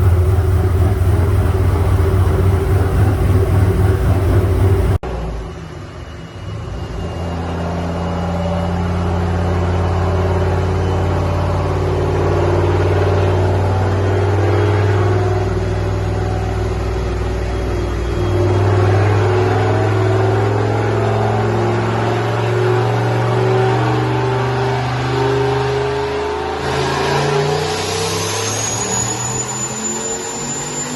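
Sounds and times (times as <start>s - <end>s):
turbocharged car engine on dyno: 0.0s - 5.8s, 7.0s - 30.9s.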